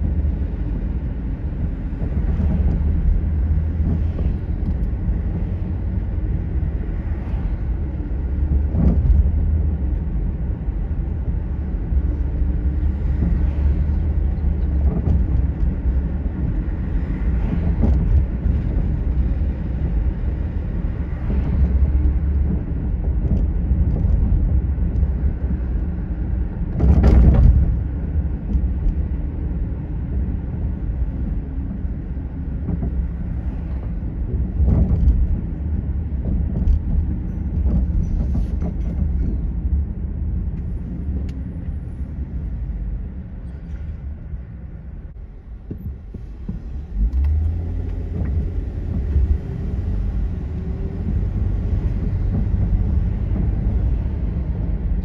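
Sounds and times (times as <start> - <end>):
road and engine rumble: 0.0 - 55.0.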